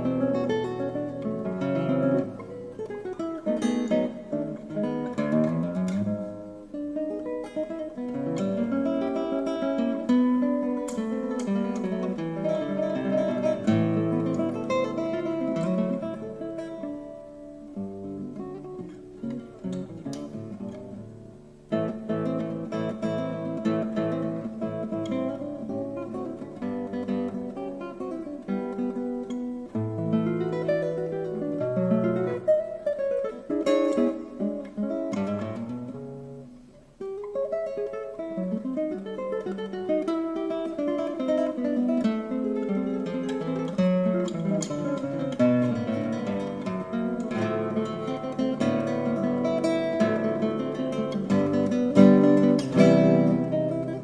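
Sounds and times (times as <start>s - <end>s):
classical guitar playing: 0.0s - 54.0s.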